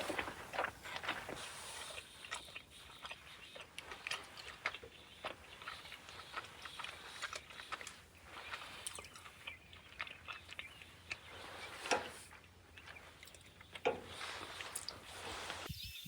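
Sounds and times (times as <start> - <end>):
person chewing food: 0.0 - 15.7.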